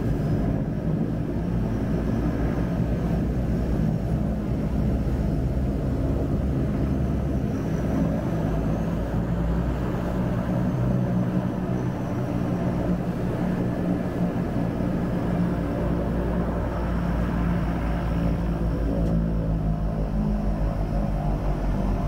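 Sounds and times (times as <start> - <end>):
propeller engine low hum: 0.0 - 22.0.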